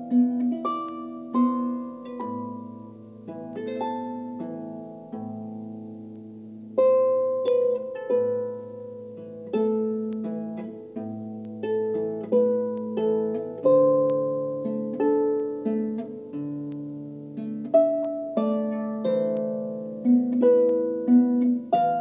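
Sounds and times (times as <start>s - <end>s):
harp playing: 0.0s - 22.0s.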